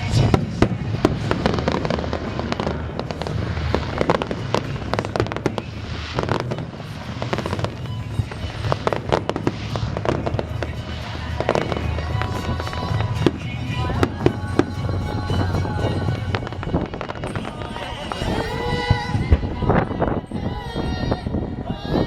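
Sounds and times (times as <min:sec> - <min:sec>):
fireworks crackling: 0:00.0 - 0:20.4
steady low rumble: 0:00.0 - 0:22.0.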